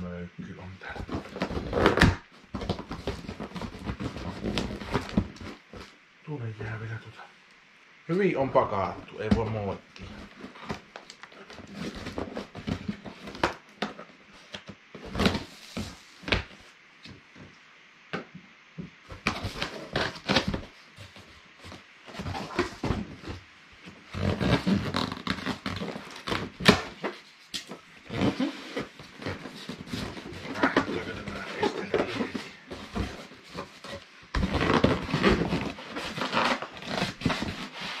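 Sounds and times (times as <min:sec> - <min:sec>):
cardboard scraping and rustling: 0:00.8 - 0:06.0, 0:09.2 - 0:16.7, 0:19.1 - 0:38.0.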